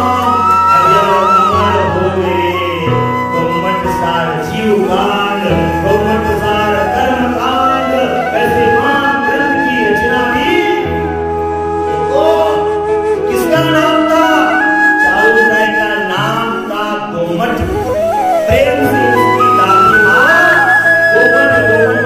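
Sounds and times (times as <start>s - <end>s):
instrumental accompaniment: 0.0s - 22.0s
person singing: 0.0s - 22.0s.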